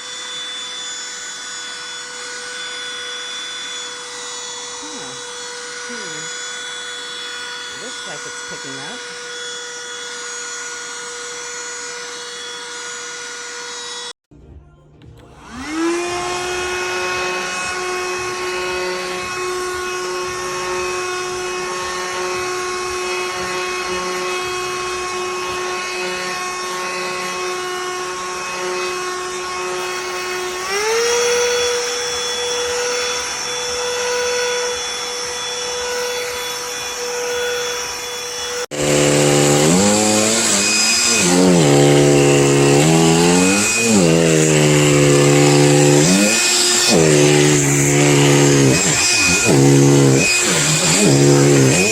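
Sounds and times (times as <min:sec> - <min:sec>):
handheld vacuum motor whining: 0:00.0 - 0:14.2, 0:15.2 - 0:51.9.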